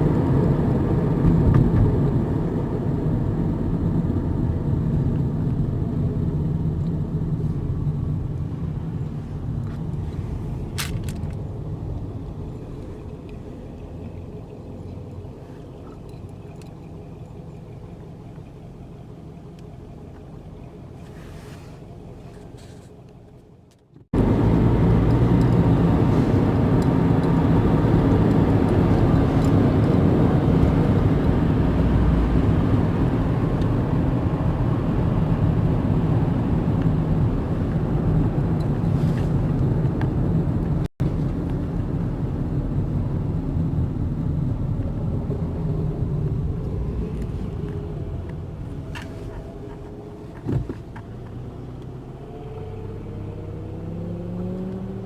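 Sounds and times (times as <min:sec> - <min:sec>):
road and wind noise inside car: 0:00.0 - 0:55.0.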